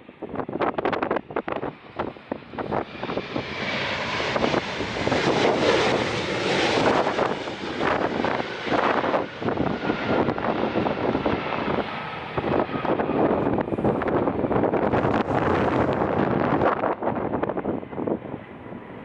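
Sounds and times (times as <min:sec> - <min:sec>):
airliner engines roaring past: 0:00.0 - 0:19.0
wind buffeting microphone: 0:00.0 - 0:19.0.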